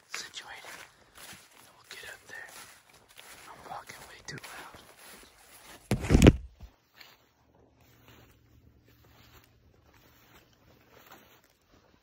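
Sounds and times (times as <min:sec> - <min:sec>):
footsteps through dry grass: 0:00.0 - 0:12.0.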